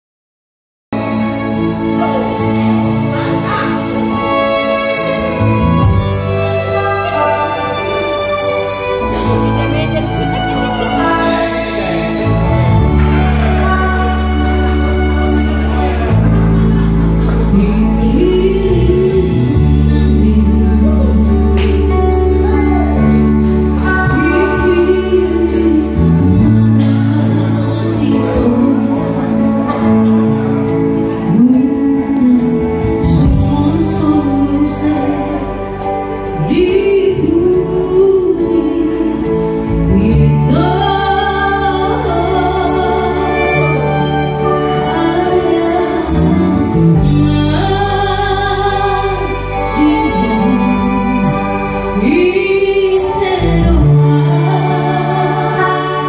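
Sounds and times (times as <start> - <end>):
electronic keyboard bass notes: 0.9 - 56.0
woman singing into a microphone: 1.0 - 56.0.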